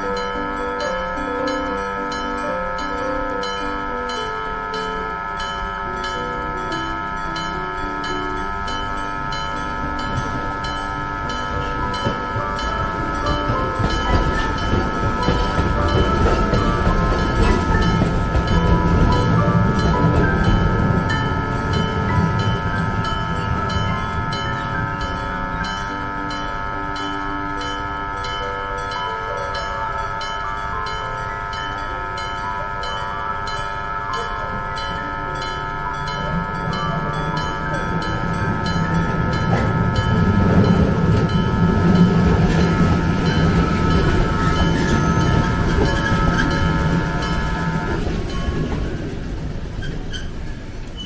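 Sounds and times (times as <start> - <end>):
level crossing bell ringing: 0.0 - 51.0
train rumbling past: 0.0 - 51.0.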